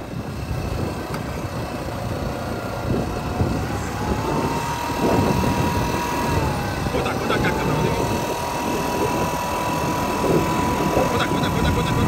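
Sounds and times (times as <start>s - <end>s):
faint rising engine whine: 0.0s - 12.0s
quad bike engine rumbling: 0.0s - 12.0s.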